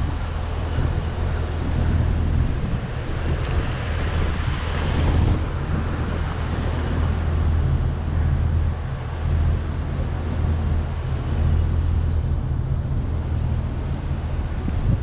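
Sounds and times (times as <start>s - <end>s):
low rumble: 0.0s - 15.0s
wind rushing over microphone: 0.0s - 15.0s.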